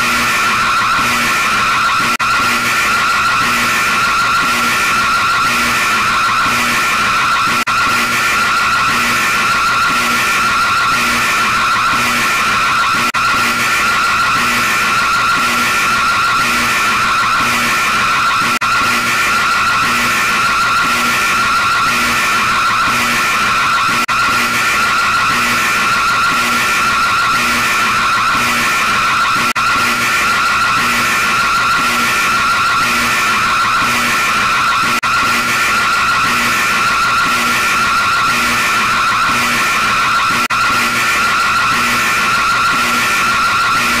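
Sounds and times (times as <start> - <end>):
distorted electronic alarm tone: 0.0 - 44.0.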